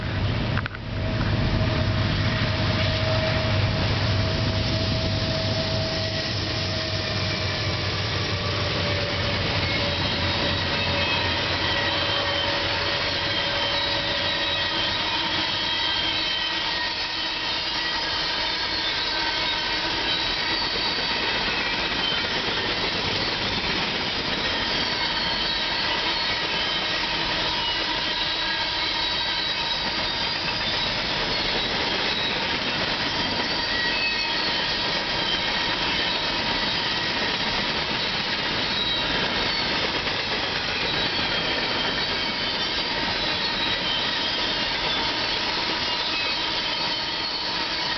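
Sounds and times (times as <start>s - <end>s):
train wheels rushing on rails: 0.0s - 47.9s
high wheel squeals: 1.0s - 47.9s.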